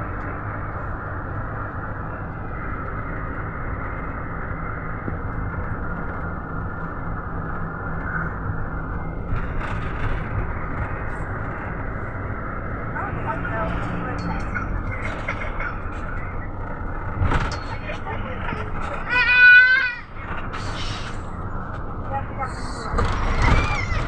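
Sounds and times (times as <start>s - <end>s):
low engine drone: 0.0s - 24.0s
road and tyre noise: 0.0s - 24.0s.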